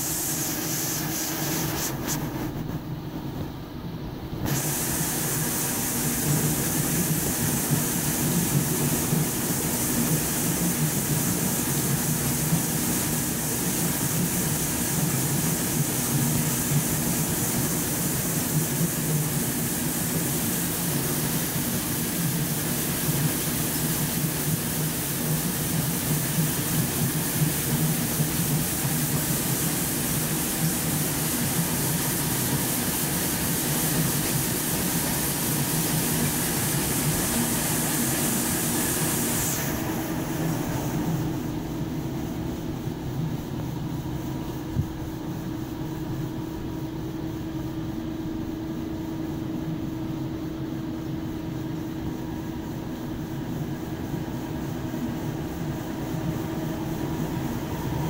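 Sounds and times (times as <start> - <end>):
continuous hiss: 0.0 - 58.0
industrial machinery hum: 0.0 - 58.0.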